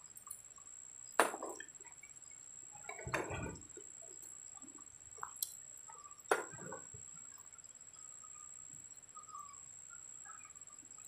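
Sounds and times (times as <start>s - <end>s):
faint chirps: 0.0s - 11.0s.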